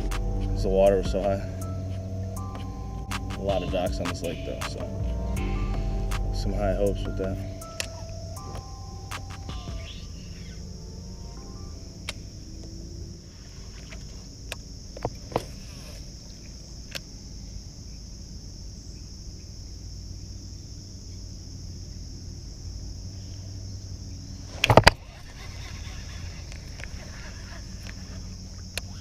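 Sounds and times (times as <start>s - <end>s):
low hum: 0.0s - 25.3s
insect drone: 0.0s - 29.0s.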